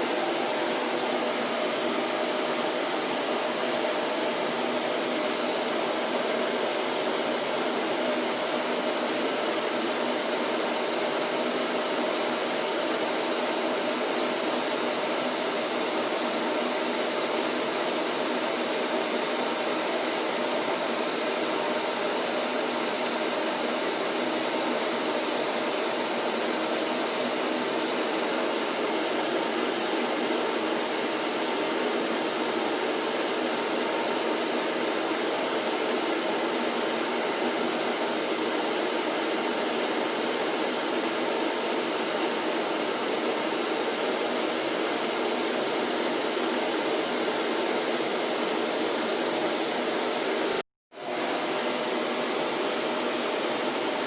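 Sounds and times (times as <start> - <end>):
vacuum cleaner motor running: 0.0 - 54.0.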